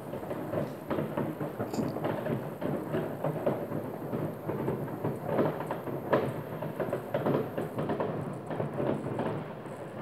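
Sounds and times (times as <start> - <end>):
distant fireworks bangs and crackling: 0.0 - 10.0.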